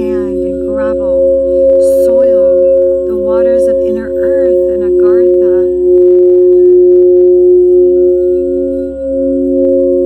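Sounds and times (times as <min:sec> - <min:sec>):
singing bowls ringing: 0:00.0 - 0:10.0.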